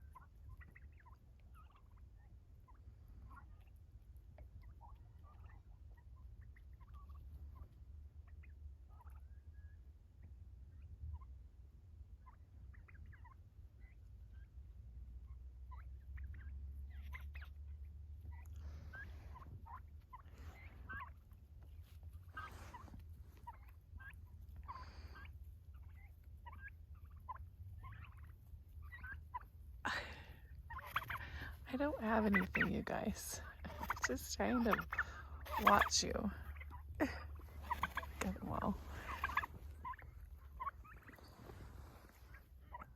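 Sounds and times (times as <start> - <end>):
turkeys calling: 0.0 - 42.9.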